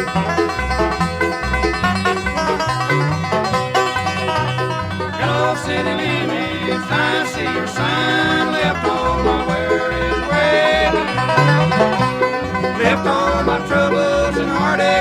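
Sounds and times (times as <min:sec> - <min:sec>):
banjo: 0:00.0 - 0:15.0
bass notes: 0:00.0 - 0:15.0
guitar: 0:00.0 - 0:15.0.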